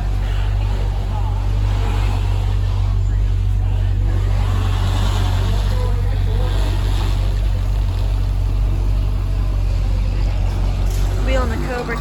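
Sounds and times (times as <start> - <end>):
car engine idling: 0.0 - 12.0
faint voices: 0.0 - 12.0.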